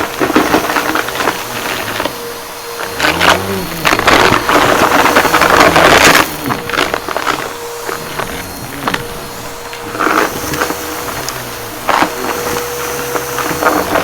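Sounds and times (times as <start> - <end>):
debris crackling in vacuum brush: 0.0 - 14.0
vacuum cleaner running: 0.0 - 14.0.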